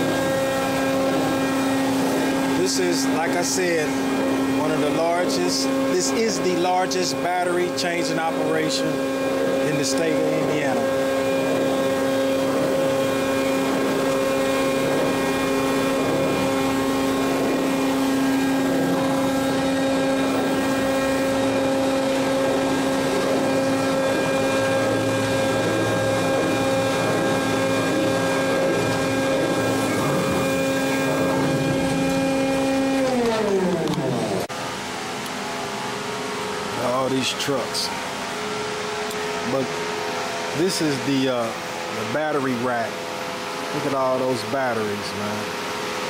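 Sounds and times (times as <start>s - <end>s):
electric motor whine: 0.0s - 46.0s.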